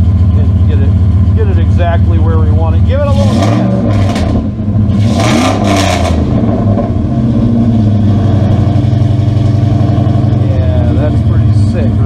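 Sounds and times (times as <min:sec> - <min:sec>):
engine revving and idling: 0:00.0 - 0:12.0.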